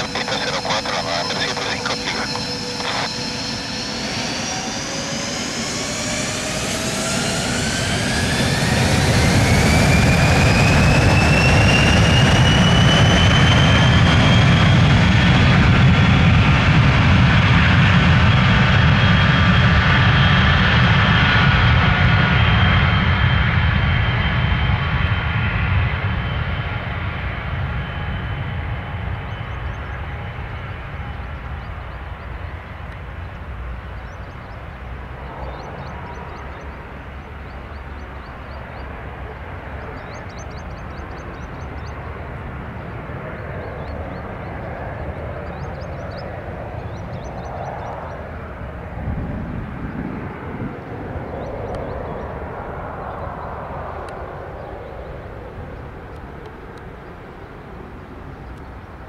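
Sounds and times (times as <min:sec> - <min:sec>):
jet engine whine rising: 0:00.0 - 0:59.0
jet engines roaring: 0:00.0 - 0:59.0.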